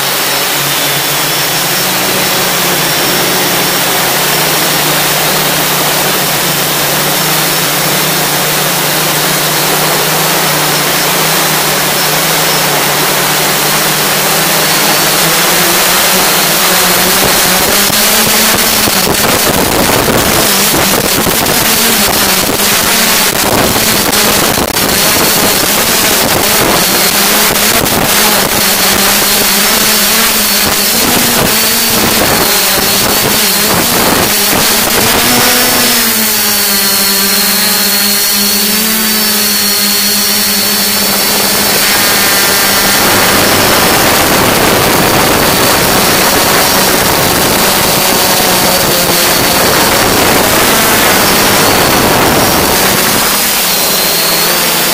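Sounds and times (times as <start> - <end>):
drone motors and propellers whirring: 0.0 - 54.9
wind noise on microphone: 0.0 - 54.9.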